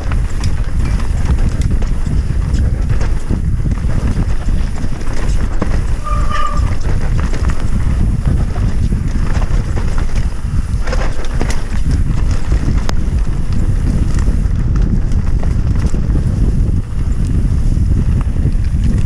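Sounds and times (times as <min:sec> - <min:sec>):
bike rattling and knocking: 0:00.0 - 0:19.0
wind buffeting microphone: 0:00.0 - 0:19.0.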